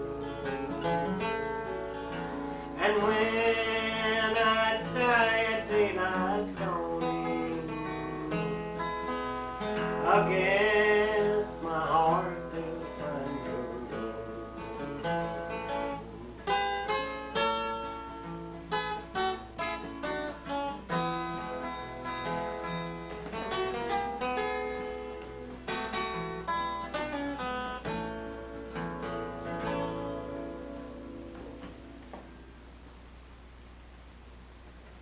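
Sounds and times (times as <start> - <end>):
acoustic guitar picking: 0.0 - 32.9.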